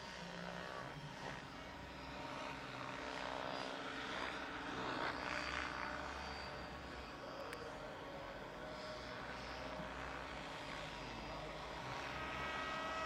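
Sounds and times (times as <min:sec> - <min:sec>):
electric motor whine: 0:00.0 - 0:13.0
helicopter rotors whirring: 0:00.0 - 0:13.0.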